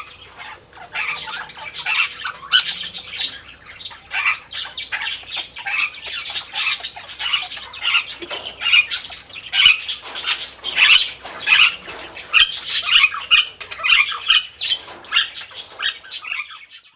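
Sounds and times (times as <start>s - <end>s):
parrots chattering and squawking: 0.0s - 16.9s.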